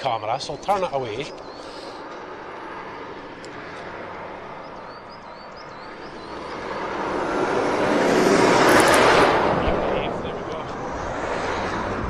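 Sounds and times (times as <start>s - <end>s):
lorry engine and tyre noise: 0.0s - 12.0s.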